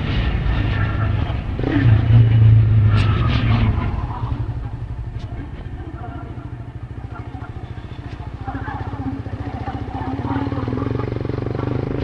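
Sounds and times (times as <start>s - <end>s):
small engine pulsing hum: 0.0s - 12.0s.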